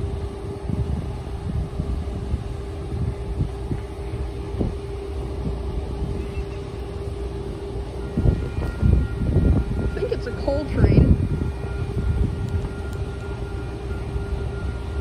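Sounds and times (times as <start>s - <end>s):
diesel locomotive engine rumble: 0.0s - 15.0s
wind buffeting microphone: 0.0s - 15.0s.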